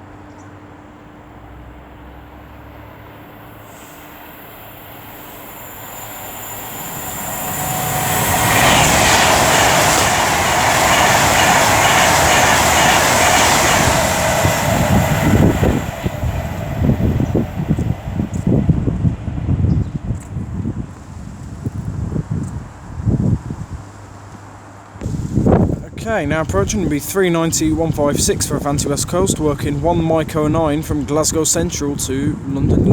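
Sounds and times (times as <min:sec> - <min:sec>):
electric train passing: 0:00.0 - 0:32.9
wind buffeting microphone: 0:03.6 - 0:32.9.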